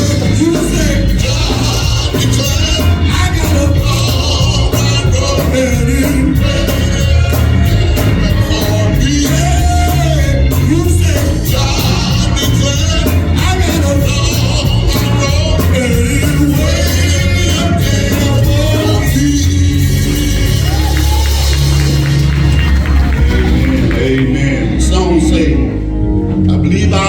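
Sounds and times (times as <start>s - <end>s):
singing over live band: 0.0s - 21.8s, 23.1s - 25.8s.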